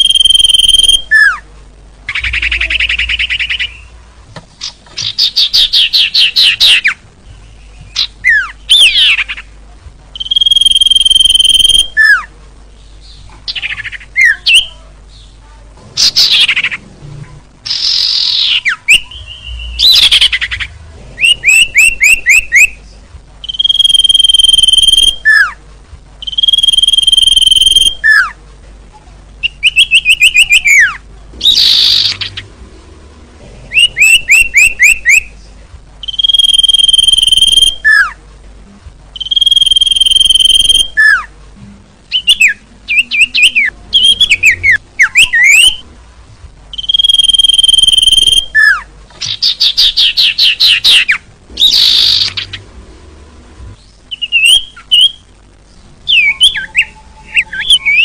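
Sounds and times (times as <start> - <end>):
recorded songbird calls: 0.0 - 1.5, 2.1 - 4.0, 4.6 - 15.4, 16.0 - 16.9, 17.6 - 25.6, 26.2 - 28.4, 29.4 - 32.6, 33.6 - 38.2, 39.1 - 41.3, 42.1 - 45.8, 46.7 - 52.7, 53.8 - 58.0.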